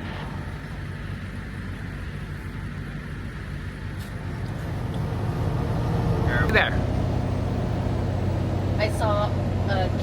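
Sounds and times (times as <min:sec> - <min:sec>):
diesel engine drone: 0:00.0 - 0:10.0
road noise: 0:00.0 - 0:10.0.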